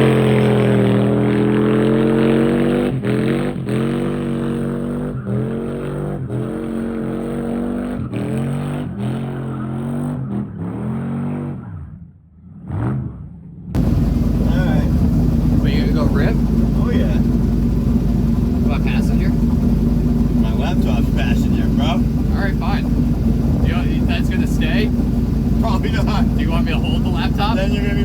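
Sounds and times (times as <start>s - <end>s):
engine running at high revs: 0.0s - 28.0s.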